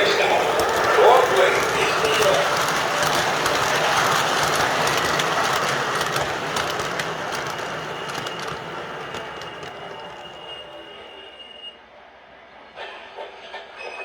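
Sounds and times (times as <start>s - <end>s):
model train wheels clicking: 0.0s - 11.2s.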